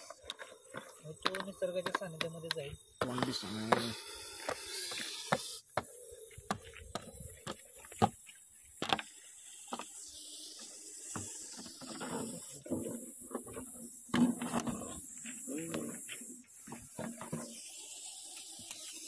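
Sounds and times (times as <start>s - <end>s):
snake hissing: 2.8s - 19.0s.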